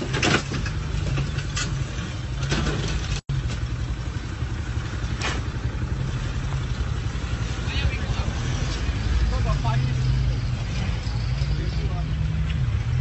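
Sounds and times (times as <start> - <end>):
vehicle engine idling: 0.5 - 13.0.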